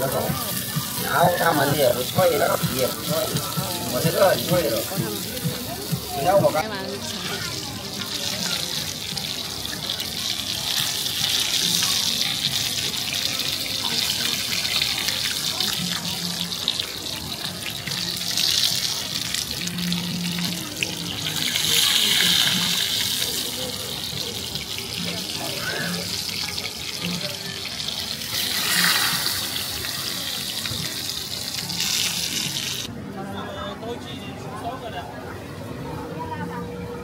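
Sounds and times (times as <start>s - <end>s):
food sizzling on a griddle: 0.0s - 32.9s.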